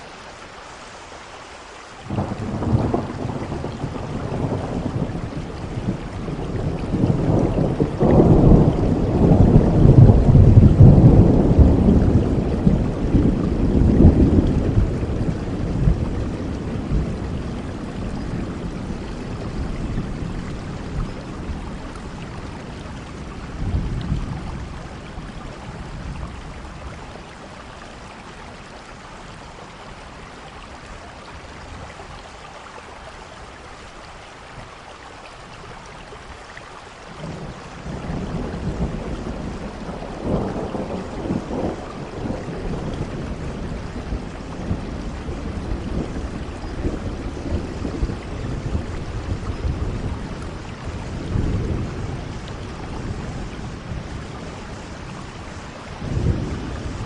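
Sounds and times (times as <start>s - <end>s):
steady rain: 0.0s - 57.0s
rolling rumble of thunder: 2.1s - 32.1s, 37.1s - 57.0s.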